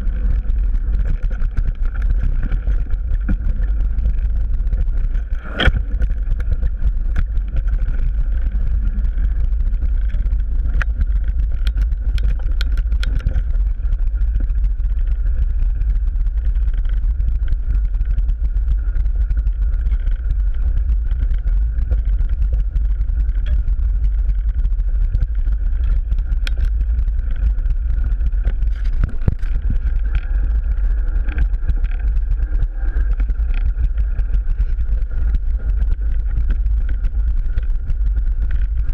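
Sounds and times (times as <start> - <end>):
mountain bike rattling on trail: 0.0 - 38.9
wind rumble on microphone: 0.0 - 38.9.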